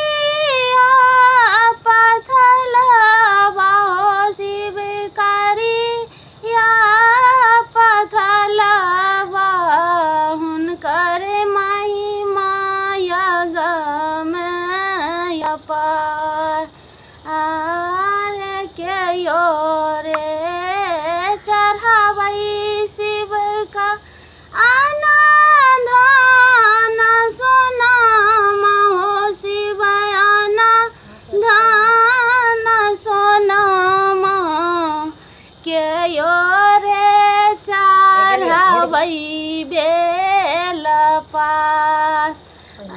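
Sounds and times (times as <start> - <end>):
woman singing unaccompanied: 0.0 - 42.9.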